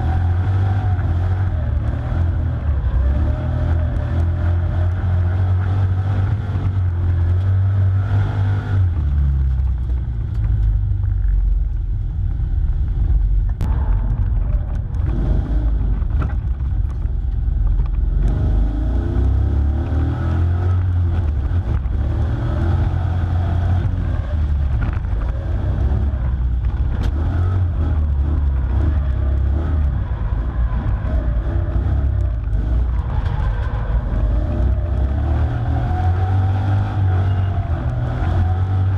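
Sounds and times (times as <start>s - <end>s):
engine revving: 0.0s - 9.5s, 13.6s - 16.6s, 17.8s - 38.9s.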